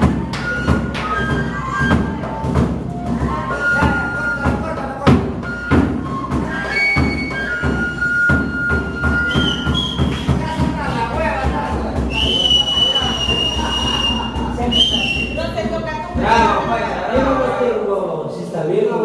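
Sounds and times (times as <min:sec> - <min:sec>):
drum thuds: 0:00.0 - 0:17.6.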